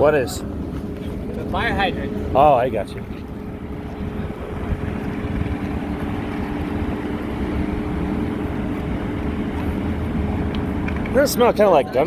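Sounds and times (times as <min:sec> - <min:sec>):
heavy engine running steadily: 0:00.0 - 0:12.0.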